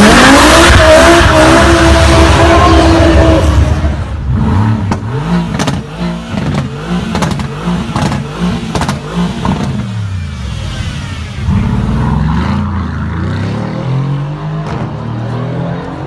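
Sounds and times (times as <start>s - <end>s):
another car roaring: 0.0s - 16.0s
car engine revving in blips: 0.0s - 16.0s.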